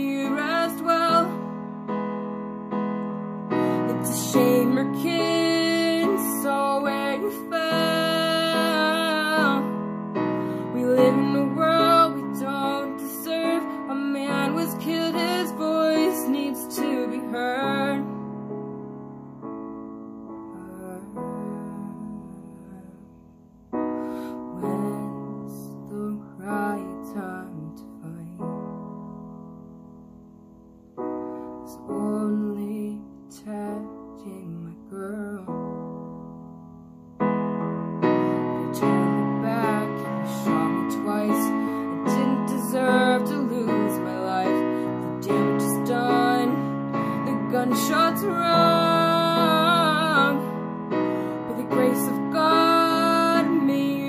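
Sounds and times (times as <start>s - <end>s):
piano playing slow chords: 0.0s - 54.0s.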